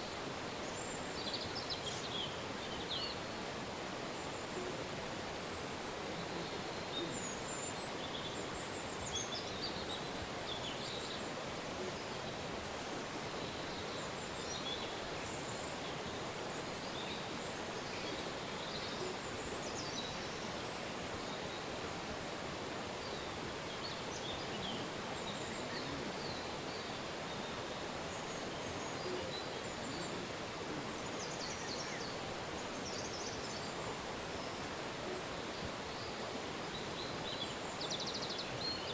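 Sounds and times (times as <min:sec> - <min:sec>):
river flowing: 0:00.0 - 0:38.9
small birds chirping: 0:00.0 - 0:38.9.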